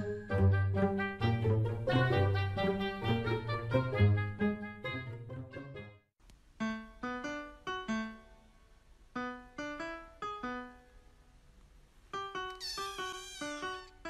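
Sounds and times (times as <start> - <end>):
piano-like melody: 0.0 - 6.0, 6.6 - 8.6, 9.2 - 11.0, 12.2 - 14.0.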